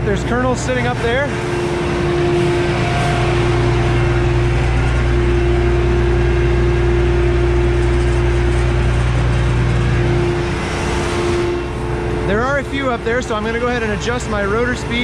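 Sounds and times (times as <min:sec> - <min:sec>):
combine harvester engine drone: 0:00.0 - 0:15.0
steady machine whine: 0:00.0 - 0:15.0.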